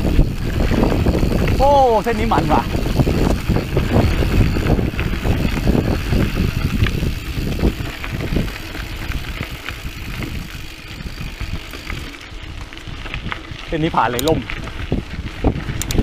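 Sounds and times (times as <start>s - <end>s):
bike rattling and knocking: 0.0s - 16.0s
tyres rumbling on dirt trail: 0.0s - 16.0s
wind on microphone: 0.0s - 16.0s.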